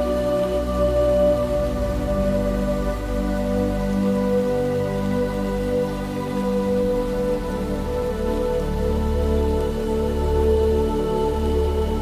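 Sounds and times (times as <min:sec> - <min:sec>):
ambient music with held tones: 0:00.0 - 0:12.0
faint hiss: 0:00.0 - 0:12.0.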